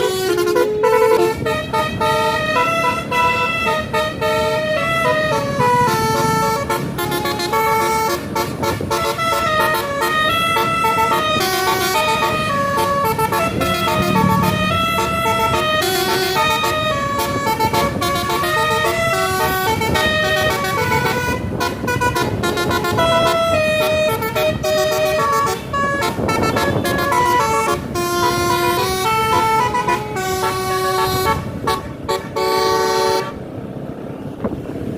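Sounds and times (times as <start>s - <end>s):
bus musical horn melody: 0.0s - 33.6s.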